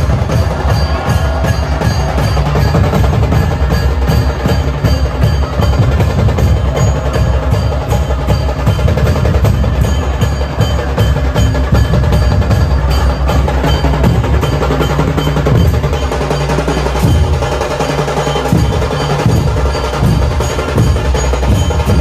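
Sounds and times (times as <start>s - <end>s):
heavy low drum beat: 0.0s - 22.0s
procession drums and percussion: 0.0s - 22.0s
ringing metallic tones: 0.0s - 22.0s.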